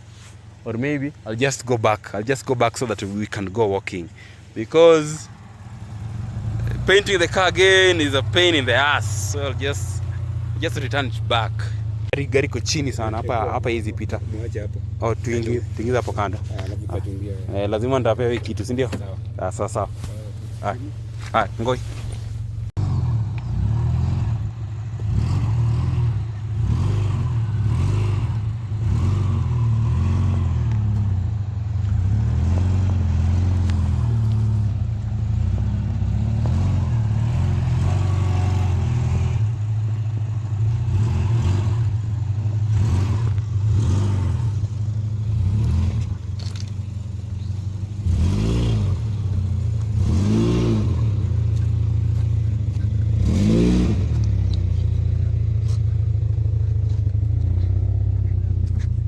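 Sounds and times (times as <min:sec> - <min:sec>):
car engine at low revs: 0:00.0 - 0:59.0.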